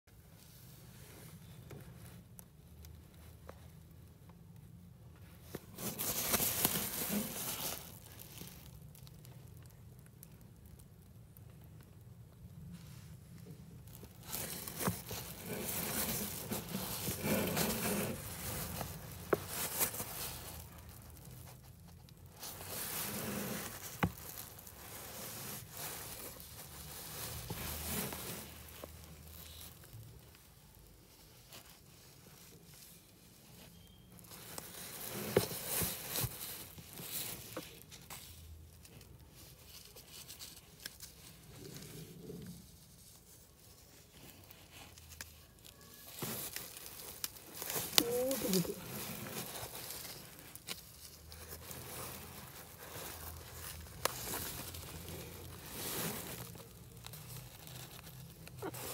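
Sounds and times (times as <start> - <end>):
plastic sack rustling: 5.2 - 9.3, 12.7 - 58.9.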